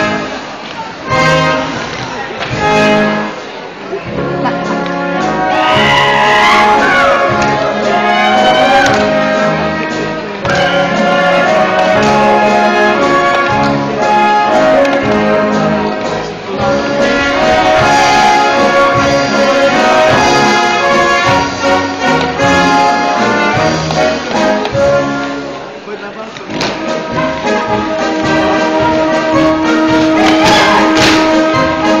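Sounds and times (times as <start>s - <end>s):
brass band playing folk dance: 0.0s - 32.0s.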